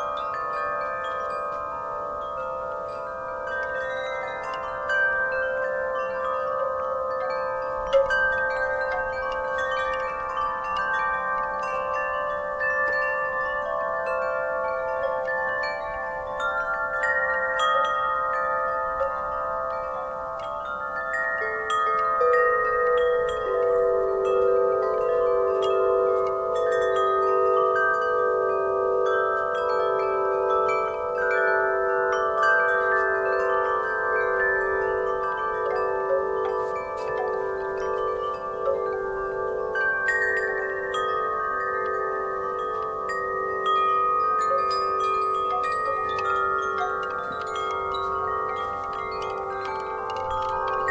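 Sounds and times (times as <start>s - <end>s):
lower chime tone: 0.0s - 50.9s
wind chimes ringing: 0.0s - 50.9s.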